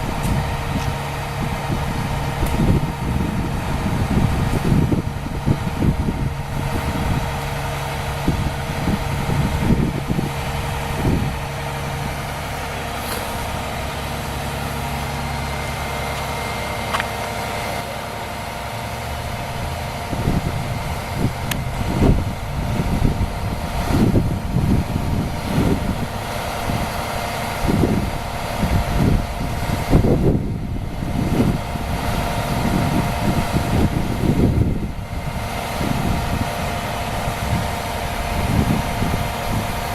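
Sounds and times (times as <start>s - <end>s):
diesel engine idling: 0.0s - 39.9s
low rumbles: 0.0s - 39.9s.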